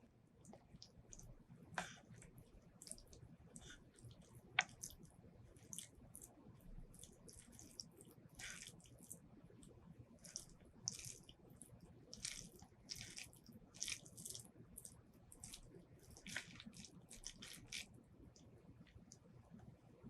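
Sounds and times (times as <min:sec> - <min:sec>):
wet chewing and mouth sounds: 0:00.4 - 0:19.2.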